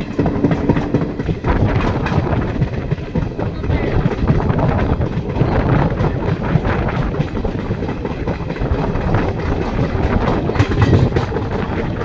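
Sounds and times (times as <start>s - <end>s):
train rumbling on rails: 0.0s - 12.0s
wheels and carriages rattling: 0.0s - 12.0s.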